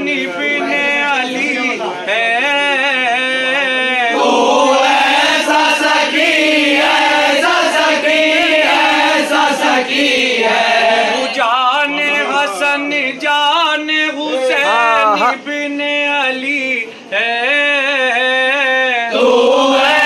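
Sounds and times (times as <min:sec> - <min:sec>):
lead voice singing: 0:00.0 - 0:20.0
men singing in chorus: 0:00.0 - 0:20.0.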